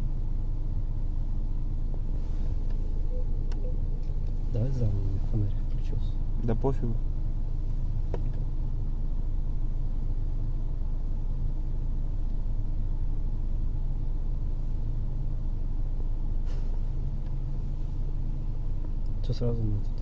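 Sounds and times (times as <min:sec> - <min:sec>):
low hum and rumble: 0:00.0 - 0:20.0.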